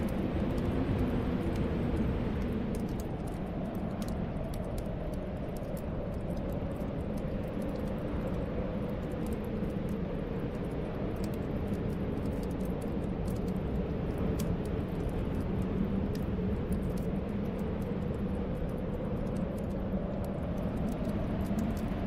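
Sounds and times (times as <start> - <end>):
wind rushing and whistling: 0.0 - 22.0
wood fire crackling: 0.0 - 22.0.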